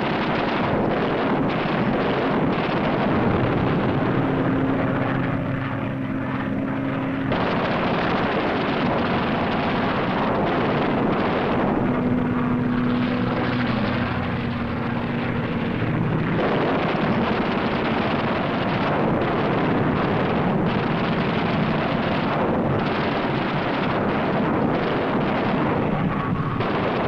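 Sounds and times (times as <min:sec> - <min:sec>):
propeller aircraft engines: 0:00.0 - 0:27.0.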